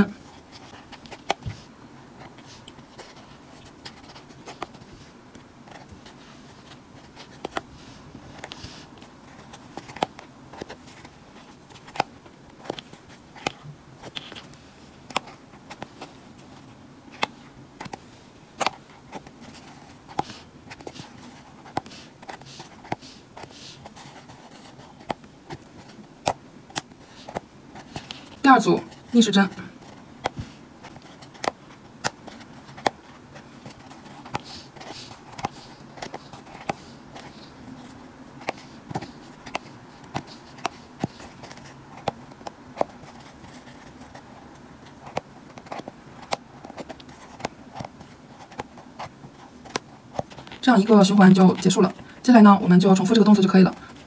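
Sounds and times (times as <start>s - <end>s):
faint background noise: 0.0s - 54.0s.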